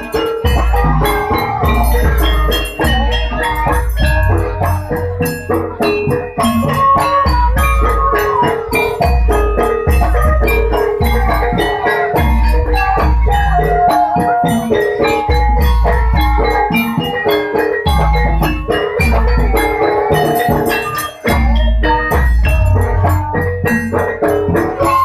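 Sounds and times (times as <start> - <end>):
drums playing a busy rhythm: 0.0 - 25.0
struck metallophones: 0.0 - 25.0.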